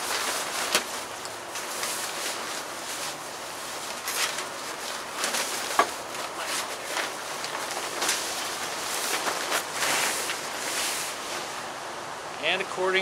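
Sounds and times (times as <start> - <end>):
plastic tarp rustling and crinkling: 0.0 - 11.8.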